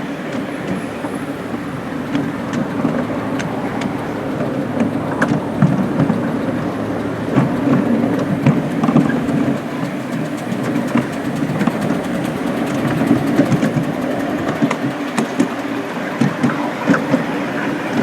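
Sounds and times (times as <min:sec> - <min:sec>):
clicks over rail joints: 0:00.0 - 0:18.0
train wheels rumbling on rails: 0:00.0 - 0:18.0.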